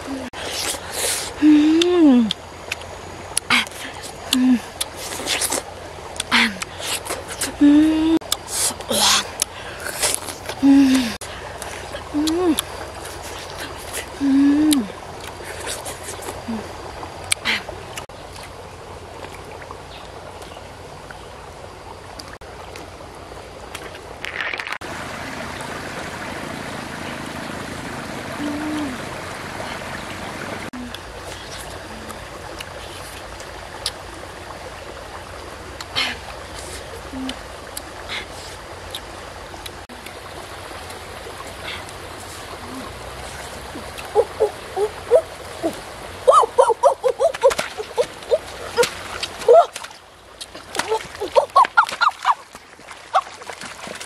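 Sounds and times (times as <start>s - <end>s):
stream water over rocks: 0.0s - 54.0s
water splashing: 0.0s - 54.0s.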